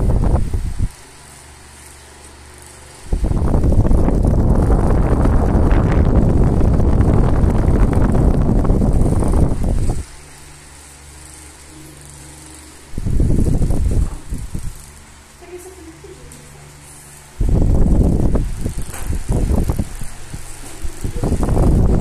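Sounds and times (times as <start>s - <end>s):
fan humming: 0.0s - 22.0s
fan wind buffeting microphone: 0.0s - 22.0s.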